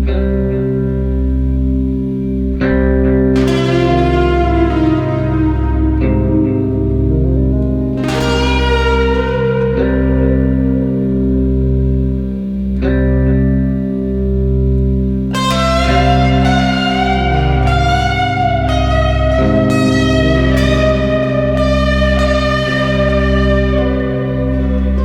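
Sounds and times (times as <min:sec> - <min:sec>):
guitar chords: 0:00.0 - 0:25.0
low bass: 0:00.0 - 0:25.0
bright guitar lead line: 0:00.1 - 0:25.0.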